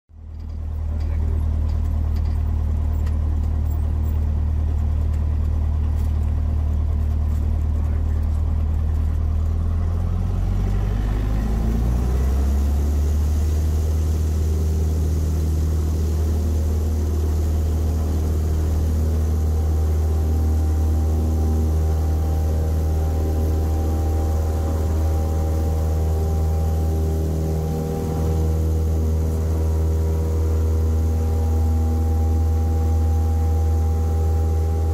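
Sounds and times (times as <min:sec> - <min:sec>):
airplane engine and propeller: 0:00.2 - 0:34.9.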